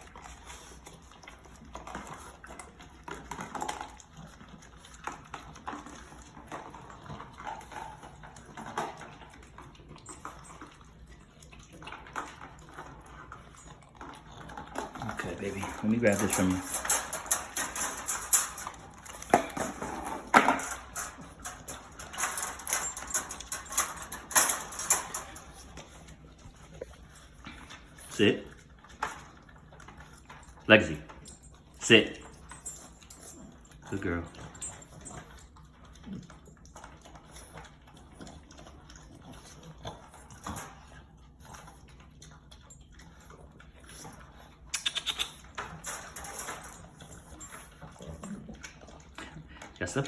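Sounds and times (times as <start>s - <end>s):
dogs licking and chewing: 0.0s - 50.0s.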